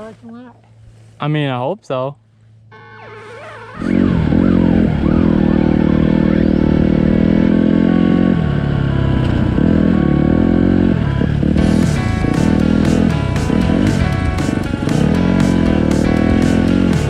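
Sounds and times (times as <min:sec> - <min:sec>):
dirt bike engine running: 0:03.2 - 0:17.0.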